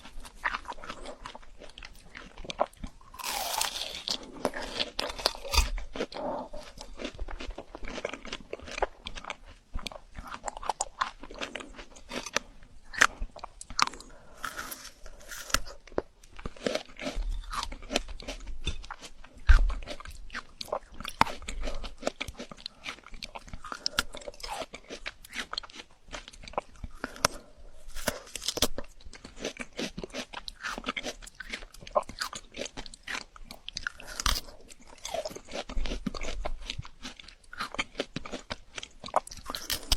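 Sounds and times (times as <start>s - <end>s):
crunching frozen fruit: 0.0s - 39.9s.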